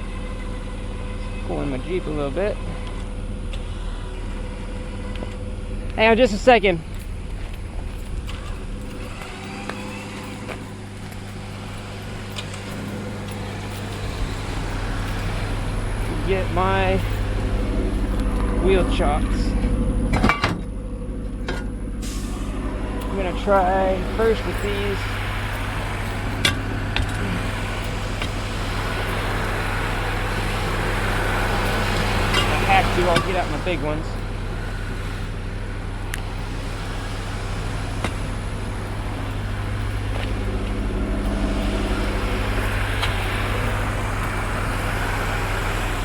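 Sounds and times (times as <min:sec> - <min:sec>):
vehicle engine idling: 0:00.0 - 0:46.0.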